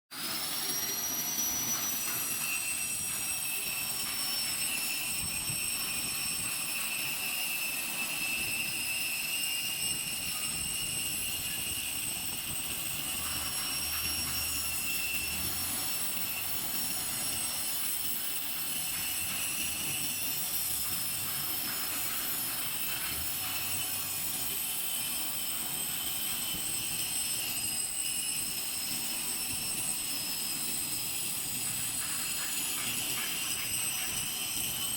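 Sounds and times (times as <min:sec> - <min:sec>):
grinder high-pitched whine: 0:00.1 - 0:34.9.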